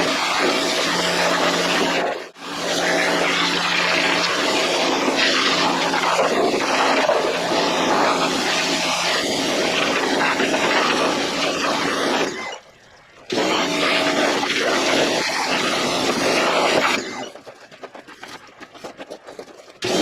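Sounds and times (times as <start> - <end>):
pressure washer motor hum: 0.0 - 20.0
water jet hissing: 0.0 - 20.0.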